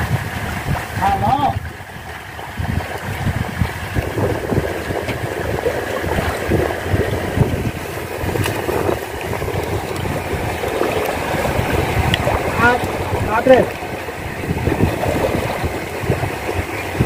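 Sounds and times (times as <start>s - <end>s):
sea water washing: 0.0s - 17.0s
wind buffeting microphone: 0.0s - 17.0s.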